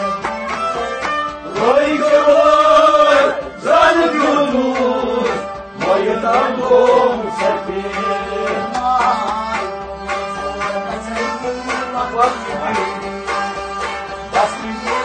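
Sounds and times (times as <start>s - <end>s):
instrumental accompaniment: 0.0s - 15.0s
man singing devotional song: 1.5s - 13.2s, 14.3s - 15.0s.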